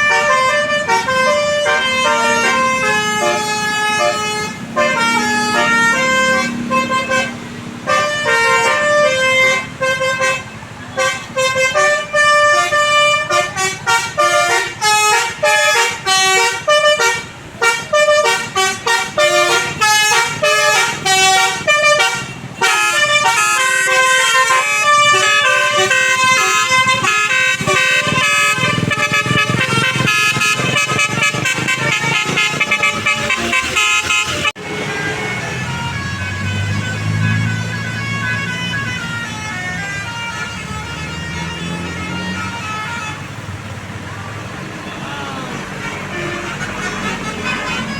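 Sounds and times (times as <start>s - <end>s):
bus musical horn melody: 0.0s - 47.9s.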